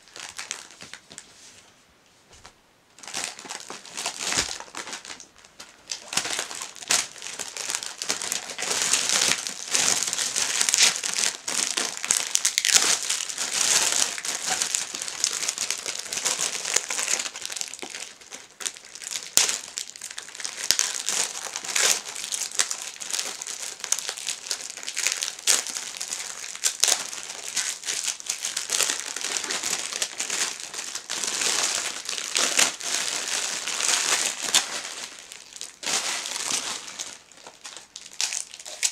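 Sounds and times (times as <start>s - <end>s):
plastic bags crinkling: 0.0s - 1.2s, 3.0s - 38.9s.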